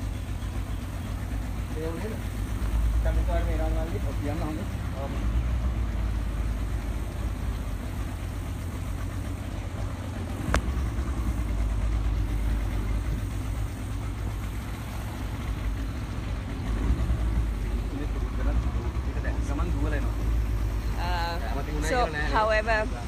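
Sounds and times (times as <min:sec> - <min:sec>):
vehicle engine low rumble: 0:00.0 - 0:23.0.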